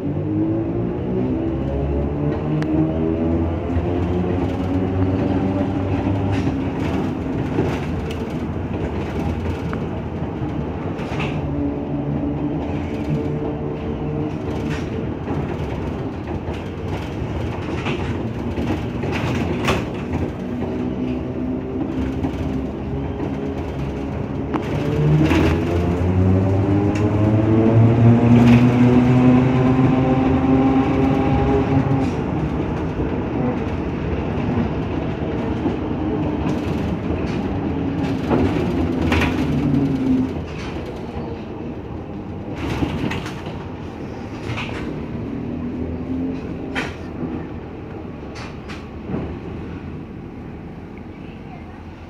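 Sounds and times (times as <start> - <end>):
vehicle rumbling on road: 0.0 - 52.0.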